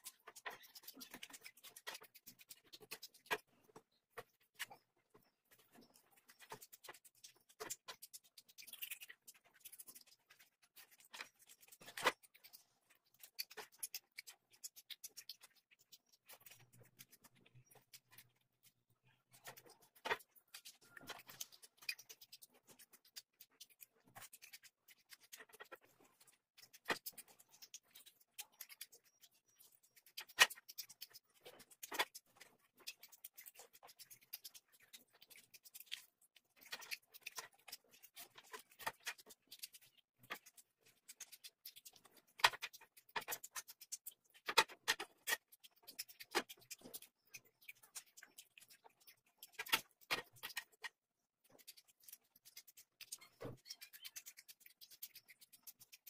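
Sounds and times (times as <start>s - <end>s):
chewing and lip-smacking: 0.0s - 56.0s
fingers working rice: 0.0s - 56.0s.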